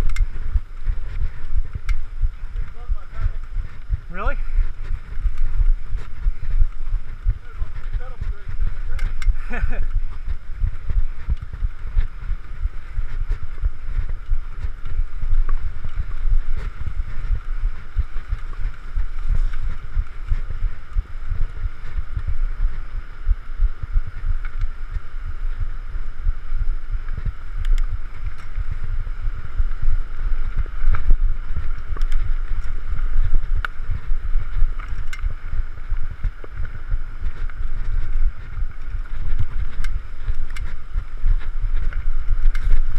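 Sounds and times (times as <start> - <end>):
bike trail rumble: 0.0 - 42.9
wind on microphone: 0.0 - 42.9.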